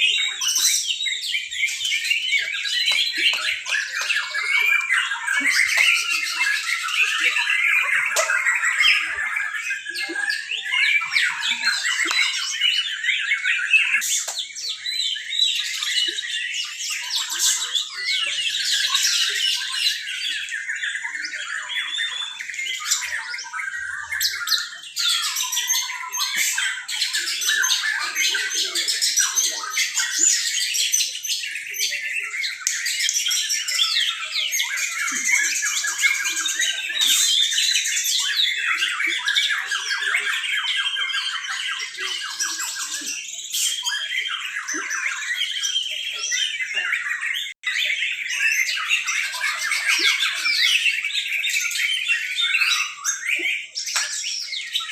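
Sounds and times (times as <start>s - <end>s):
birds singing whistles and trills: 0.0s - 54.9s.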